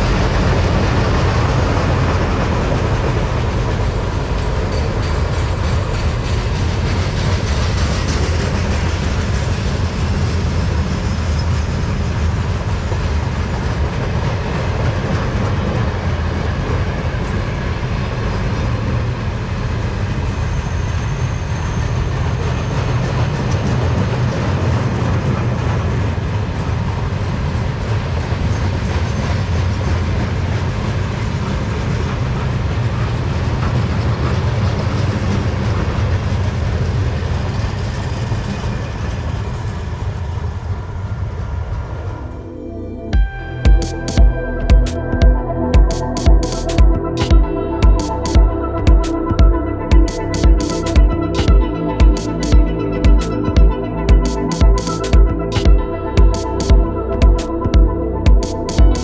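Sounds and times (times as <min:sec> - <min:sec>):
rail and wheel noise: 0:00.0 - 0:59.0.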